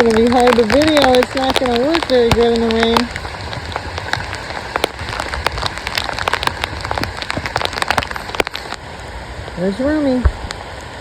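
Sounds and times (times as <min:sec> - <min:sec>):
heavy rain pouring: 0:00.0 - 0:11.0
rain drop hits: 0:00.0 - 0:11.0.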